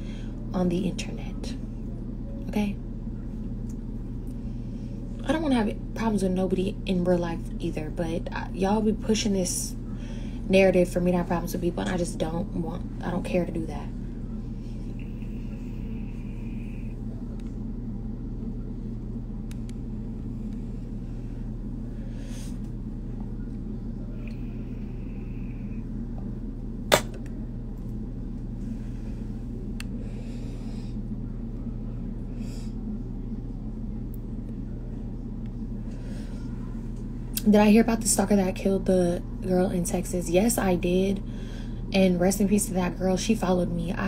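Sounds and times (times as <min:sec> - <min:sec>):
low room hum: 0:00.0 - 0:44.0.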